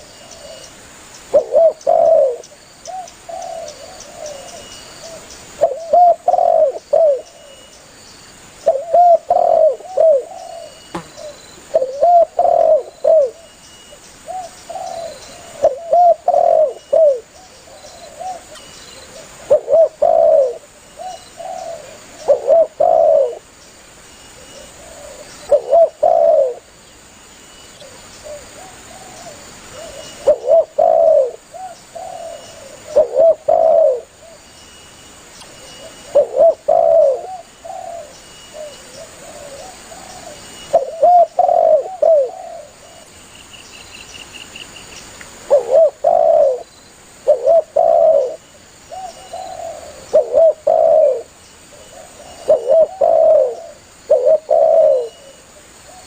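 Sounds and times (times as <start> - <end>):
dove cooing: 1.3 - 7.6, 8.6 - 13.5, 14.3 - 23.4, 24.4 - 26.7, 27.8 - 34.4, 35.6 - 43.0, 45.5 - 56.0.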